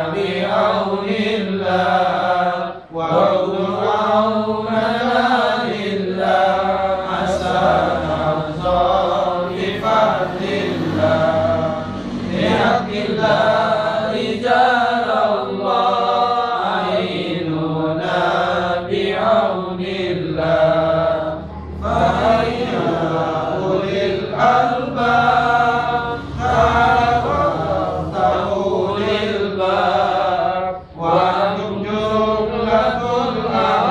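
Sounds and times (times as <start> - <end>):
men chanting together: 0.0 - 33.9.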